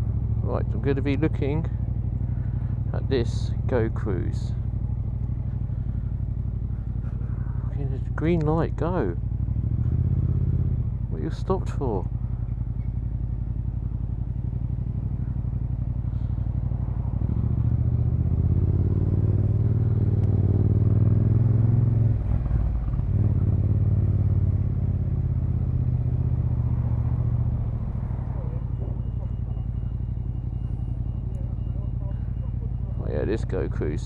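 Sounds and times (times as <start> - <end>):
motorcycle engine revving: 0.0 - 34.0
road rumble: 0.0 - 34.0.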